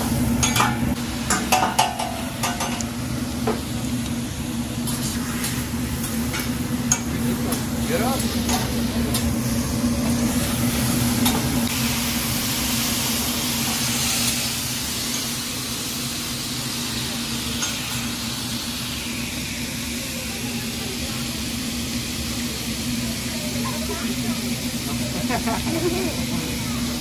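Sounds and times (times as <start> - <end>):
food sizzling on a griddle: 0.0 - 27.0.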